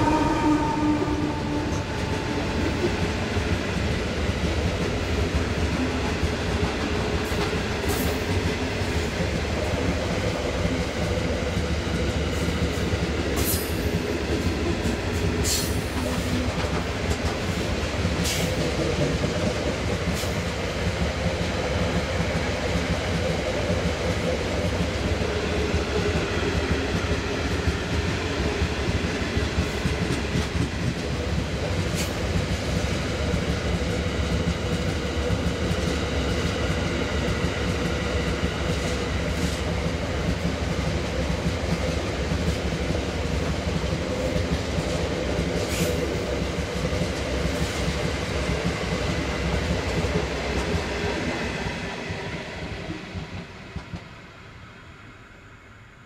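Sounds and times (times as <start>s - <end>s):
train wheels rumbling on rails: 0.0s - 54.7s.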